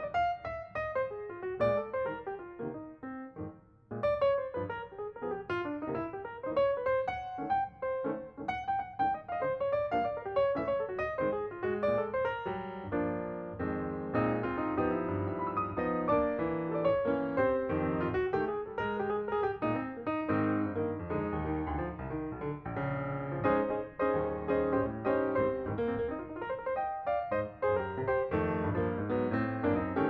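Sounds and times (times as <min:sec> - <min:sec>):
lively piano music: 0:00.0 - 0:30.0.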